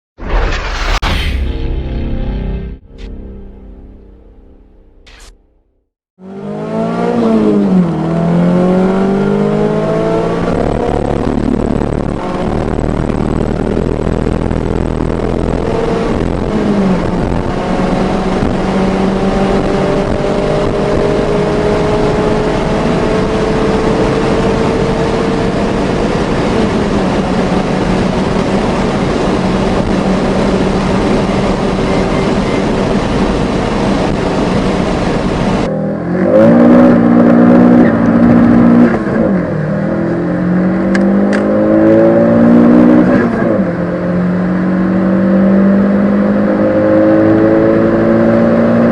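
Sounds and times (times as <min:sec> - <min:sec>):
car engine accelerating: 0:06.2 - 0:48.9
car engine revving: 0:06.2 - 0:48.9
road and wind noise: 0:06.2 - 0:48.9.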